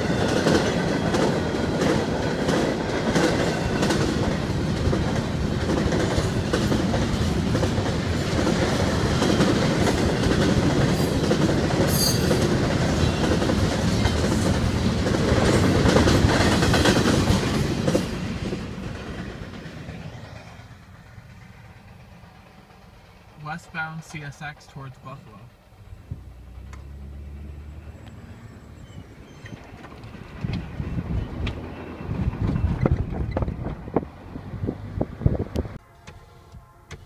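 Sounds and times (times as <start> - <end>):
freight train wheels rolling: 0.0 - 37.0.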